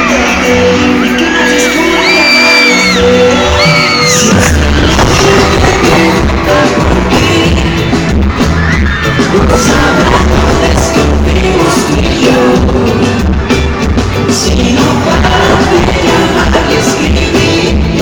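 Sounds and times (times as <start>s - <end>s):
live pop band: 0.0s - 18.0s
person singing: 0.0s - 18.0s.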